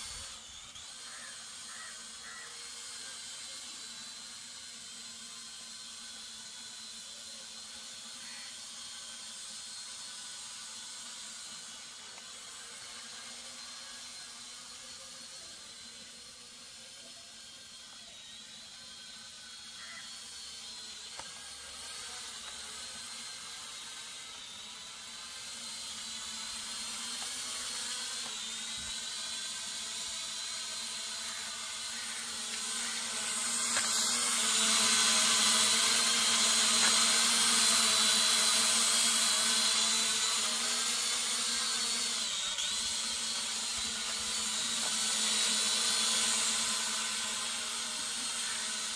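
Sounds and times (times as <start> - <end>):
drone propellers whining: 0.0 - 48.9.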